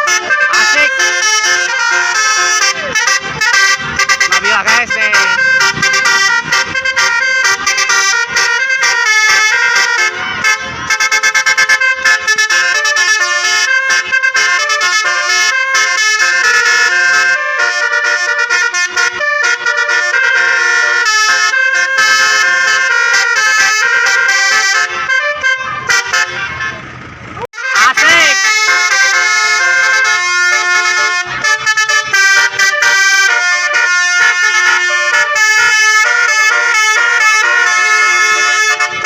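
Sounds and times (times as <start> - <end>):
bus horns playing melodies: 0.0 - 39.0.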